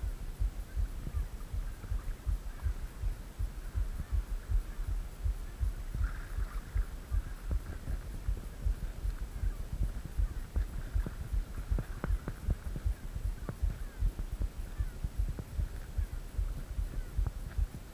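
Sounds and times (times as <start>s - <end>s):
low muffled thumps: 0.0s - 17.9s.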